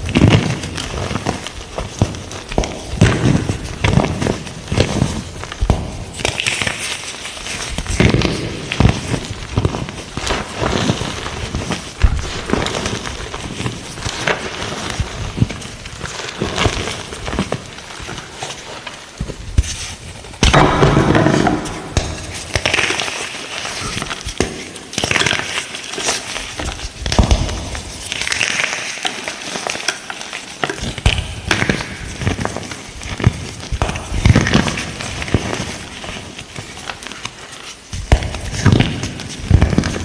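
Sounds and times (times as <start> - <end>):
chalk crunching and crumbling: 0.0 - 40.0.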